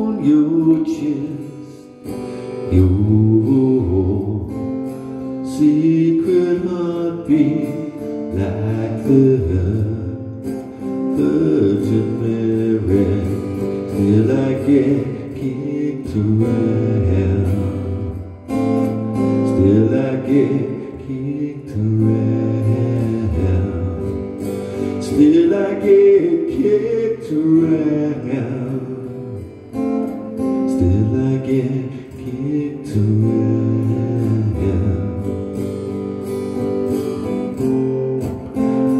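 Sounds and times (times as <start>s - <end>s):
man singing: 0.0s - 38.9s
strummed acoustic guitar: 0.0s - 38.9s.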